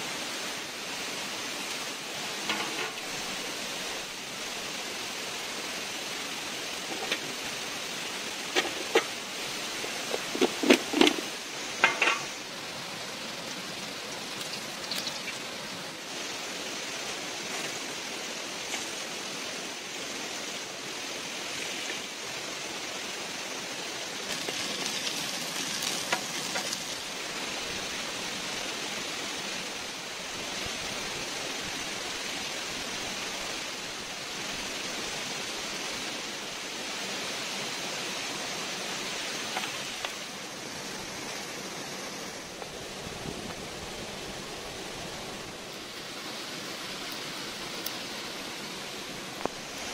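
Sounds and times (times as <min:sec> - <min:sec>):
potatoes sizzling in oil: 0:00.0 - 0:44.4, 0:45.0 - 0:49.9
stream rushing: 0:00.0 - 0:49.9.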